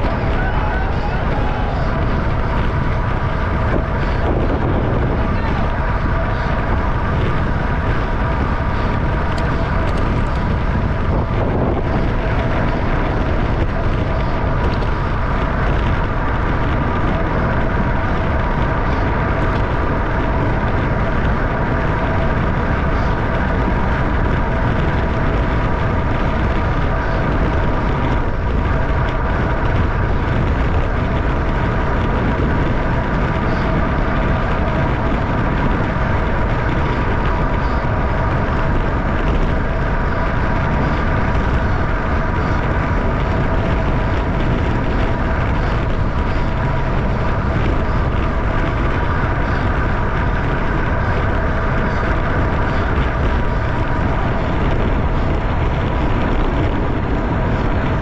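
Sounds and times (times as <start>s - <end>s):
deep rumble: 0.0s - 58.0s
steady hum: 0.0s - 58.0s
wind rush on microphone: 0.0s - 58.0s.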